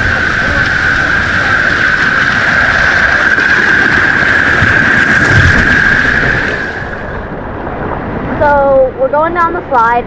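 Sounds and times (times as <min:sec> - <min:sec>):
water rushing down slide: 0:00.0 - 0:08.9.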